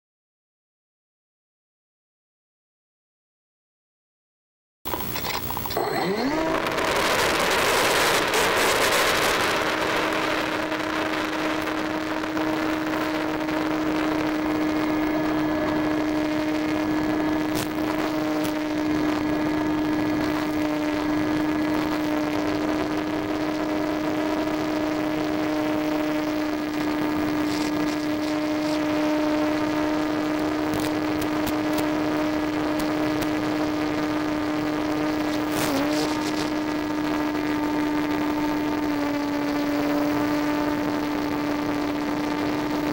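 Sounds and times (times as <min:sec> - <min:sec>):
model plane motor droning: 0:04.9 - 0:42.9.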